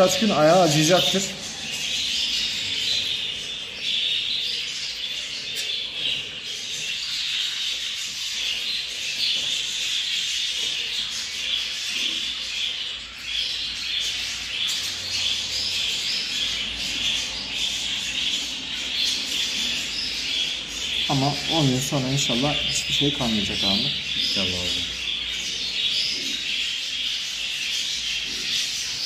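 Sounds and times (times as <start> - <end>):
budgerigars chattering and squawking: 0.0 - 29.0.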